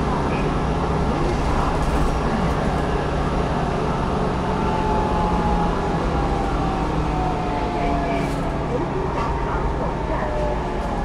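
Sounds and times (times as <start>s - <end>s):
bus engine low rumble: 0.0s - 11.0s.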